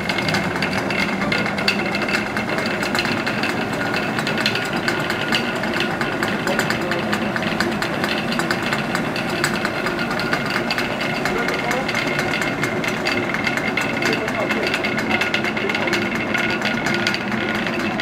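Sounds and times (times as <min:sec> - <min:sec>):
feed stick clattering on stone: 0:00.0 - 0:18.0.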